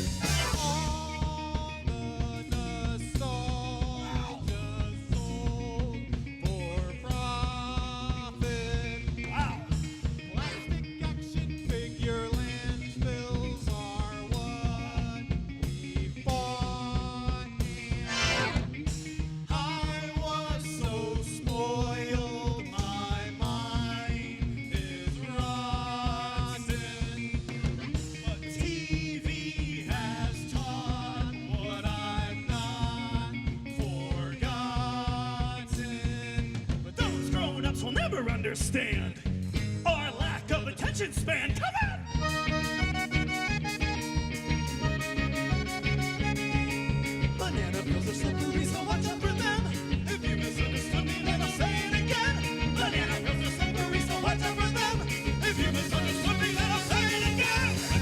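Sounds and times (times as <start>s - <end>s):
band playing upbeat instrumental: 0.0s - 58.0s.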